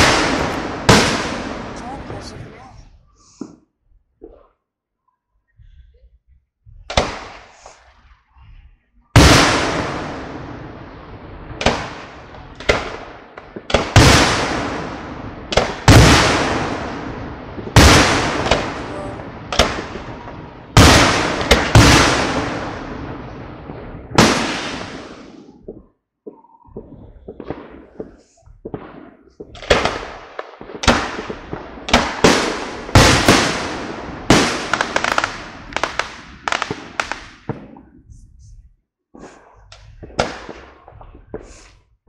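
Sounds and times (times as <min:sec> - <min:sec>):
firework shells booming: 0:00.0 - 0:04.6, 0:06.7 - 0:08.2, 0:09.2 - 0:38.4, 0:39.2 - 0:42.0.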